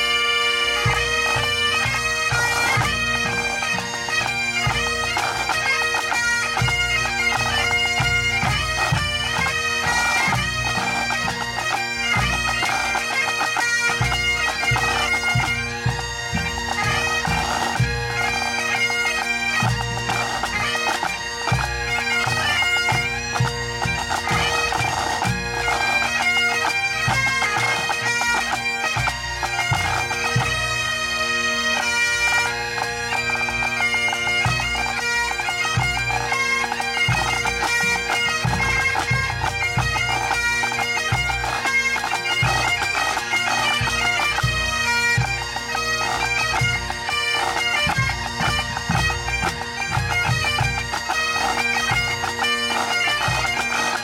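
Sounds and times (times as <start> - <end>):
bagpipe chanter melody: 0.0 - 54.0
bagpipe drones: 0.0 - 54.0.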